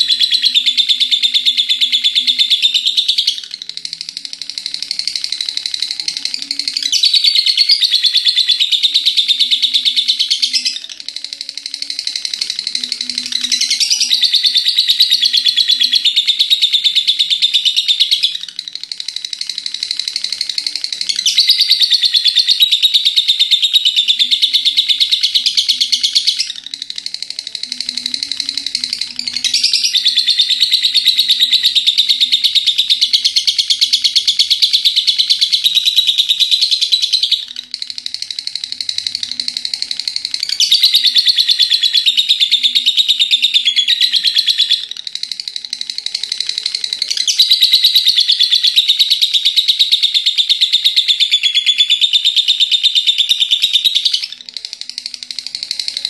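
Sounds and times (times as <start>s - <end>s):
lovebird chattering: 0.0s - 56.0s.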